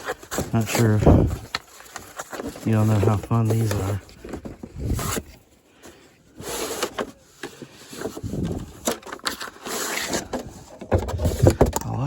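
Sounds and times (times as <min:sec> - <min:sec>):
scraping and rubbing: 0:00.0 - 0:05.5, 0:06.3 - 0:11.8.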